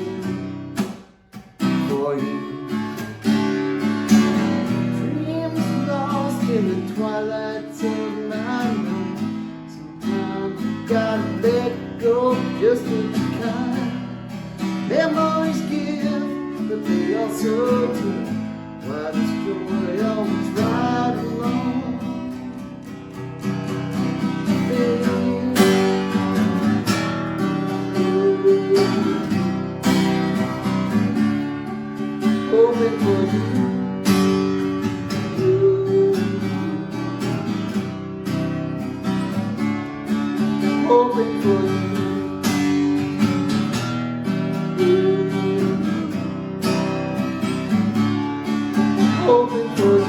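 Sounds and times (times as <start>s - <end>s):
acoustic guitar strumming: 0.0s - 50.0s.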